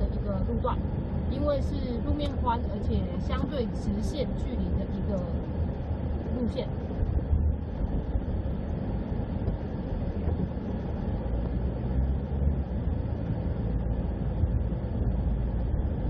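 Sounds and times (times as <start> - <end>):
vehicle road rumble: 0.0 - 16.0.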